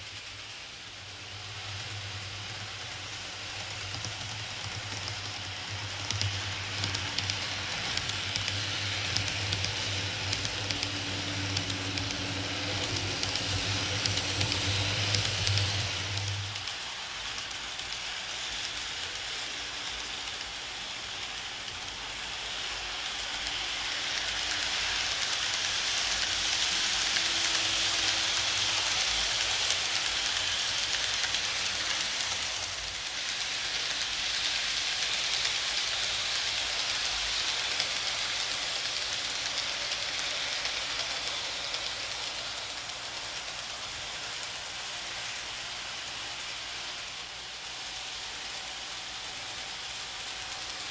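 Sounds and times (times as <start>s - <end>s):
model train running on track: 0.0s - 50.9s.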